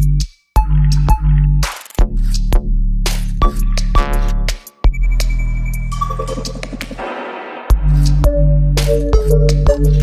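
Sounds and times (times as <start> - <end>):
dubstep music: 0.6 - 10.0.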